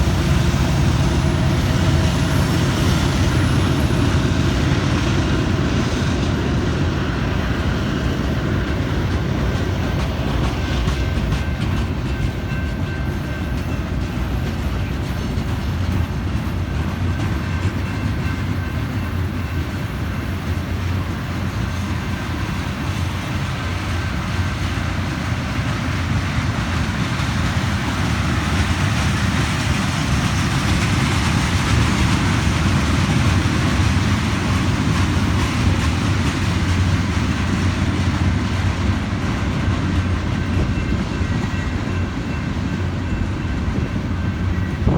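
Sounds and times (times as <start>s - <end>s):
clickety-clack over rail joints: 0.0s - 44.9s
train wheels rumbling on rails: 0.0s - 44.9s.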